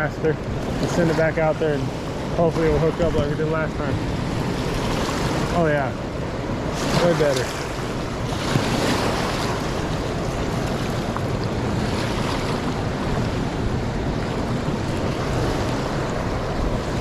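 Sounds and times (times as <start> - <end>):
fast river rushing: 0.0 - 17.0.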